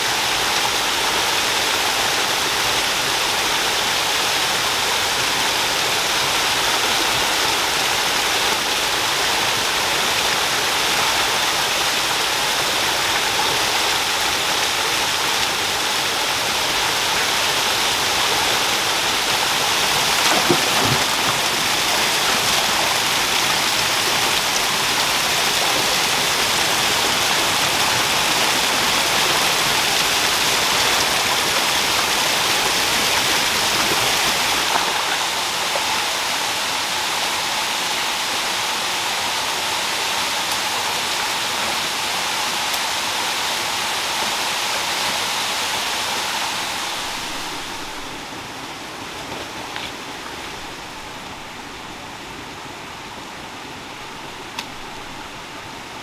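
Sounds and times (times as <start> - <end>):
waterfall over rocks: 0.0 - 56.0.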